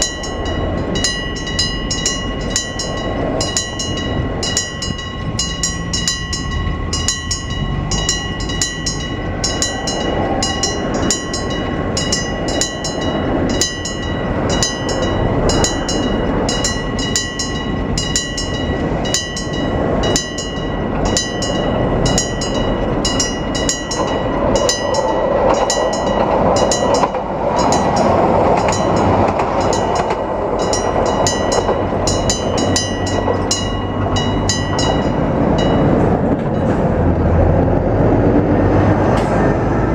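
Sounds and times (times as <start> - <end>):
level crossing bell ringing: 0.0 - 36.8
train running noise: 0.0 - 39.9.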